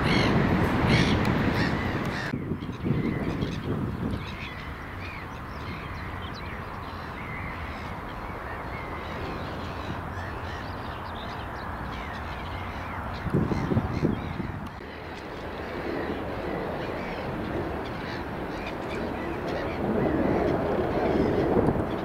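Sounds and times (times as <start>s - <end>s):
harsh bird calls: 0.0s - 22.0s.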